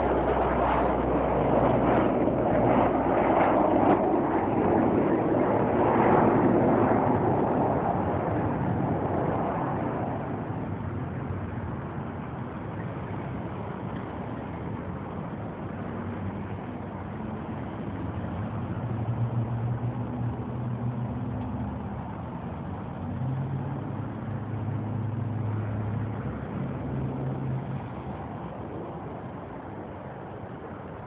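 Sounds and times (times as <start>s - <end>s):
passing traffic engine hum: 0.0s - 31.0s
steady rushing background noise: 0.0s - 31.0s.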